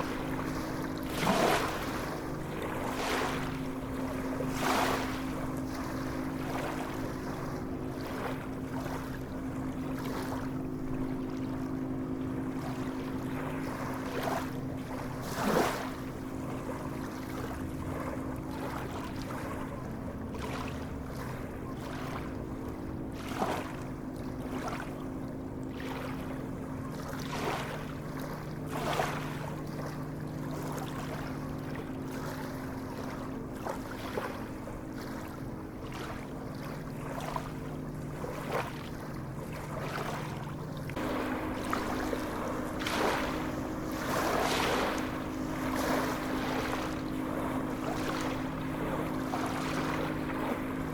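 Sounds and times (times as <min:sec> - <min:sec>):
sea waves washing: 0:00.0 - 0:19.6, 0:26.9 - 0:50.9
steady low hum: 0:00.0 - 0:50.9.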